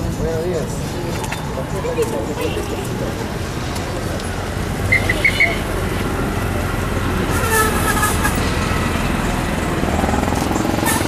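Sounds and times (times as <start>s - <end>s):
motor vehicles rumbling on street: 0.0s - 11.0s.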